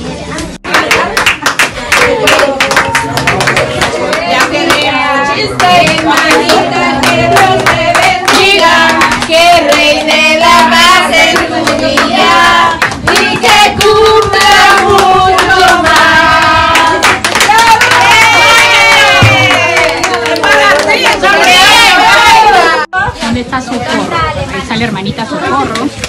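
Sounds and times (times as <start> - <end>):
people clapping in rhythm: 0.6 - 22.6
group singing: 1.6 - 22.9.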